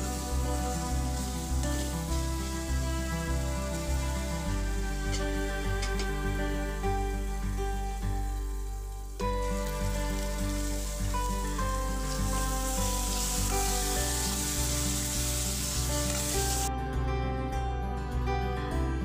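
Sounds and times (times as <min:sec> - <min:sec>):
masala sizzling: 0:00.0 - 0:16.7
gentle background music: 0:00.0 - 0:19.0.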